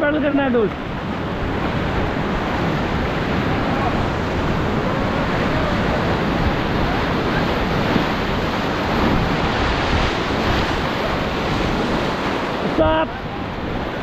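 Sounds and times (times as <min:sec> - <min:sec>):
whitewater rushing: 0:00.0 - 0:14.0
wind on microphone: 0:00.0 - 0:14.0.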